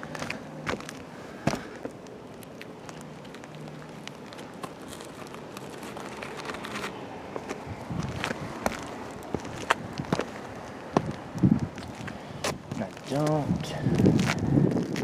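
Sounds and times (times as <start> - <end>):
footsteps on shingle roof: 0.0 - 15.0
outdoor background hiss: 0.0 - 15.0.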